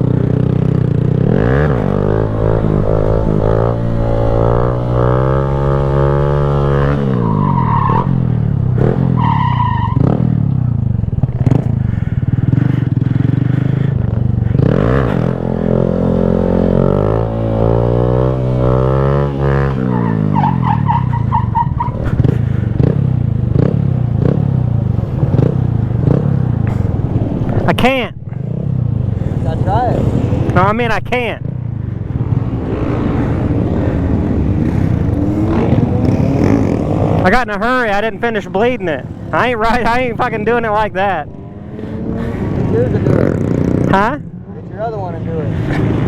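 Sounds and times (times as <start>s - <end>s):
motorcycle engine revving: 0.0s - 30.7s, 31.4s - 46.0s.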